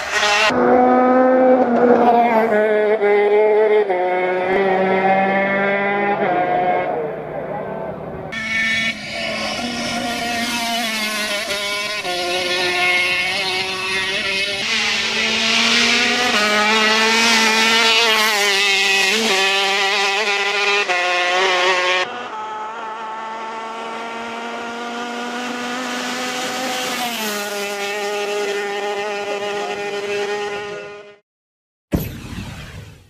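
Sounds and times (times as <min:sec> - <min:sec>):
kart engine revving: 0:00.0 - 0:31.2.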